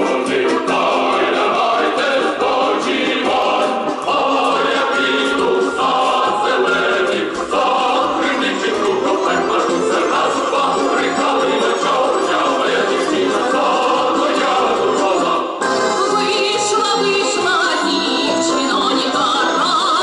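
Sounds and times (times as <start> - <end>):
choir singing: 0.0 - 20.0
instrumental accompaniment: 0.0 - 20.0.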